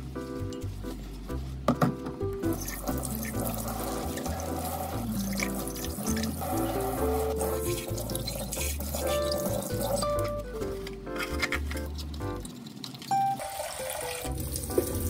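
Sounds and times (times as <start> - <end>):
background music: 0.0 - 12.5, 13.1 - 15.0.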